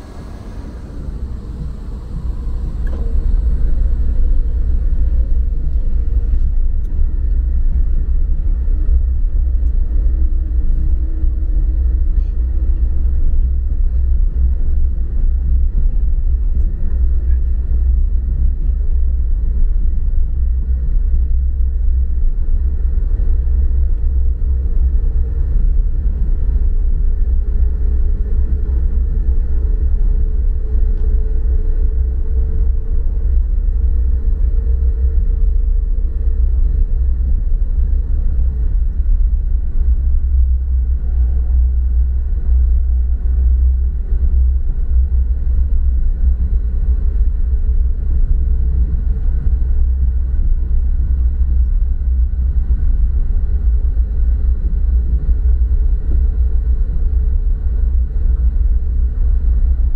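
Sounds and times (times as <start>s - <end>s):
car engine and tyre noise: 0.0s - 59.8s.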